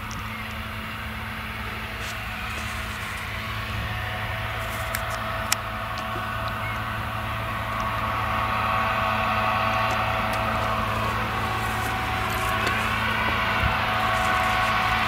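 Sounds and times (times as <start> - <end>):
forage harvester drone and whine: 0.0 - 15.0.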